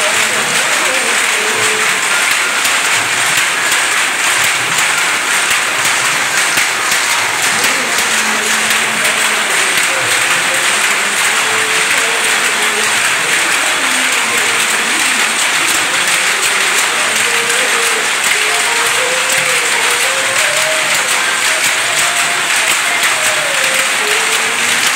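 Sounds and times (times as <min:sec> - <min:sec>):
power looms clattering: 0:00.0 - 0:24.9.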